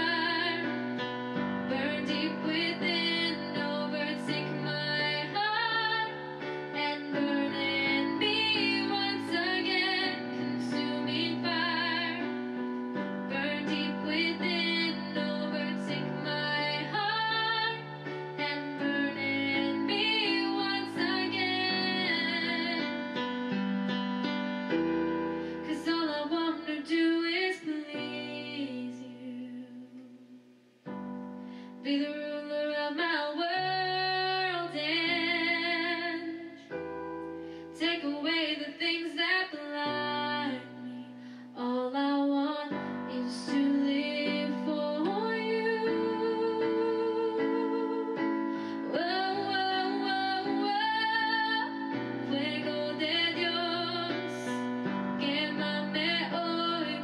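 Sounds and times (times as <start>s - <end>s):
woman singing with vibrato: 0.0s - 1.0s, 1.7s - 12.5s, 13.2s - 23.2s, 25.6s - 30.4s, 31.8s - 36.7s, 37.8s - 57.0s
electronic keyboard chords: 0.0s - 27.0s, 30.8s - 38.8s, 42.6s - 57.0s.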